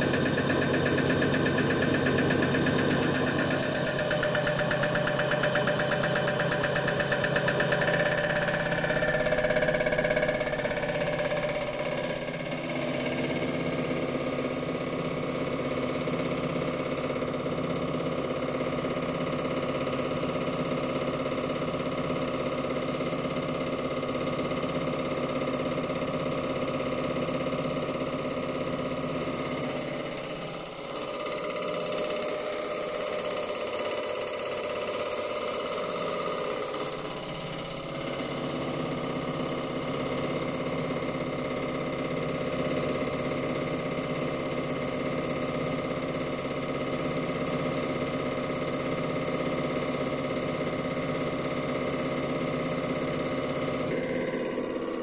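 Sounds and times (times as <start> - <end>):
test bench pump humming: 0.0 - 55.0.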